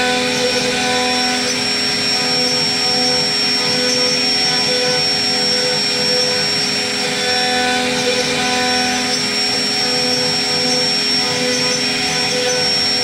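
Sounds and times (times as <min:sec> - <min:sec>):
router spindle whine: 0:00.0 - 0:13.0.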